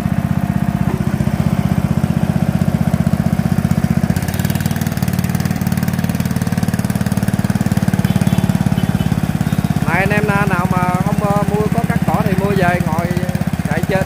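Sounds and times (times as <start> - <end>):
ride-on mower engine running: 0.0 - 14.0.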